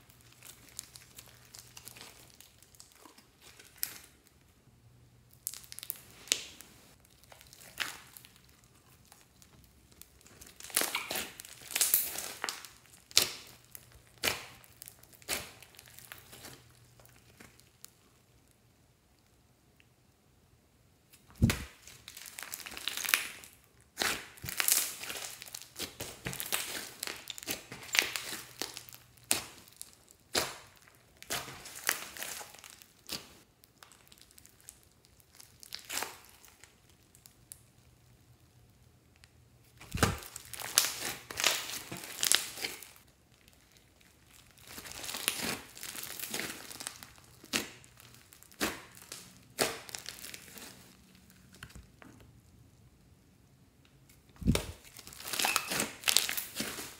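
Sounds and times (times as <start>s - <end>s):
slime crackling and popping: 0.0s - 4.5s, 5.3s - 18.5s, 21.1s - 52.6s, 53.9s - 56.9s.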